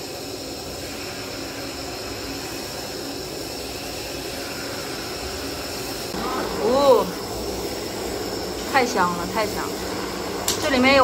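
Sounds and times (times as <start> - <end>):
gas stove hissing: 0.0 - 11.0.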